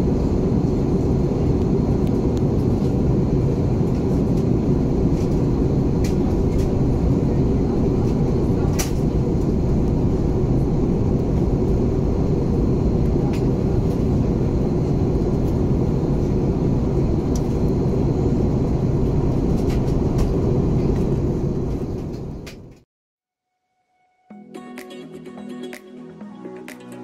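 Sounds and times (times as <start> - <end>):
airflow rushing in aircraft cabin: 0.0 - 22.9
jet engines: 0.0 - 22.9.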